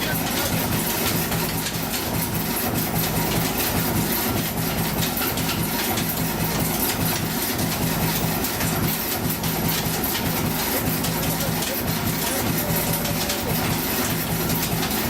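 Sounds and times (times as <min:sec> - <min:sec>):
machine humming: 0:00.0 - 0:06.6, 0:07.3 - 0:15.0.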